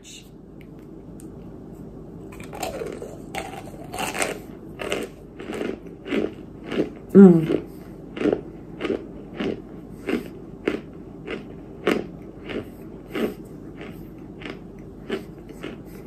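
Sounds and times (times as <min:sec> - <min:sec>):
crunchy chewing: 0:02.3 - 0:16.0.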